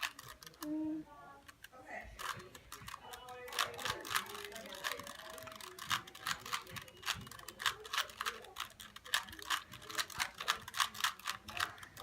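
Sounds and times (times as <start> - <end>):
puzzle cube layers clicking: 1.5 - 12.0.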